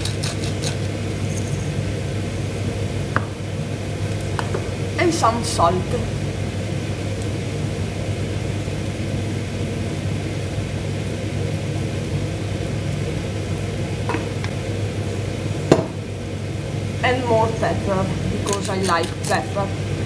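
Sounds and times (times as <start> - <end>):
low hum and whir: 0.0 - 20.0.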